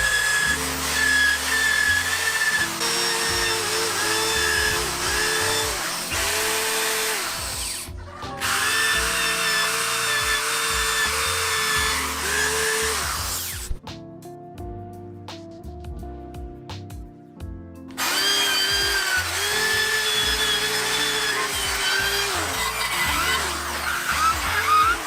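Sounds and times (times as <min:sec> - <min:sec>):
drill wire brush on metal: 0:00.0 - 0:13.8, 0:18.0 - 0:25.0.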